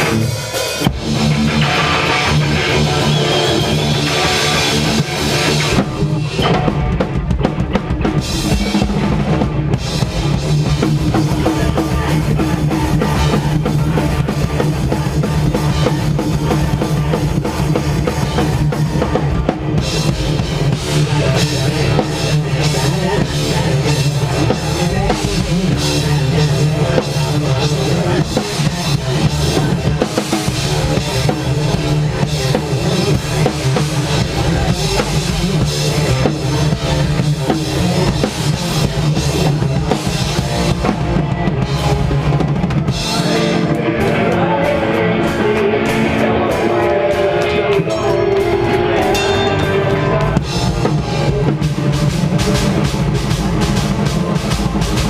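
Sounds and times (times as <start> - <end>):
loud live rock band: 0.0 - 55.0
pounding drum kit: 0.0 - 55.0.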